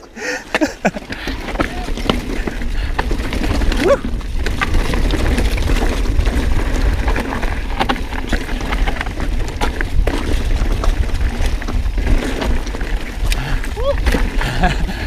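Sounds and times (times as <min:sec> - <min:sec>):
bike tyres rumbling on dirt: 0:00.0 - 0:15.0
bike clicks knocks and rattles: 0:00.5 - 0:14.9.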